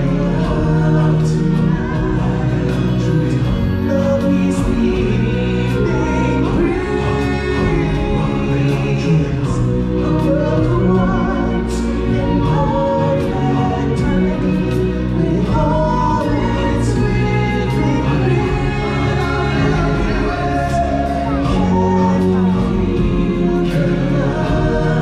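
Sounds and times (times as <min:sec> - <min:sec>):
accompanying music: 0:00.0 - 0:25.0
choir singing: 0:00.0 - 0:25.0.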